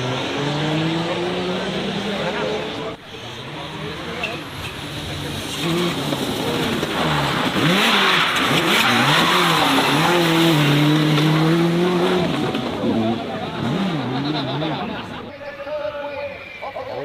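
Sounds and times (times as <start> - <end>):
race car engine accelerating: 0.0 - 4.3, 4.9 - 15.1.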